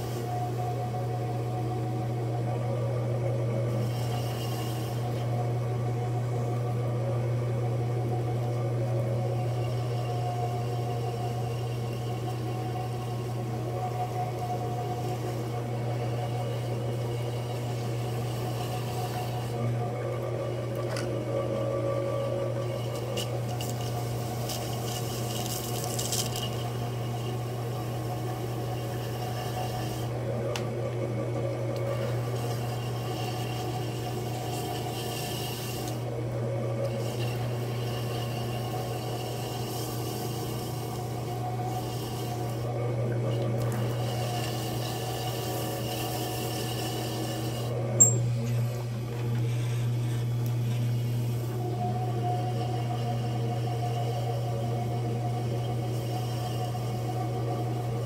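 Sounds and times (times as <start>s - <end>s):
potter's wheel motor hum: 0.0s - 58.0s.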